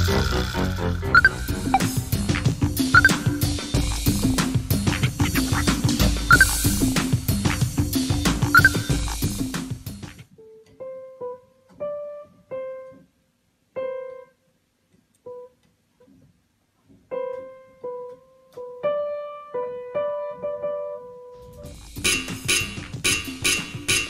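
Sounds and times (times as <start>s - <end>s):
piano notes: 0.0s - 14.4s, 17.0s - 24.0s.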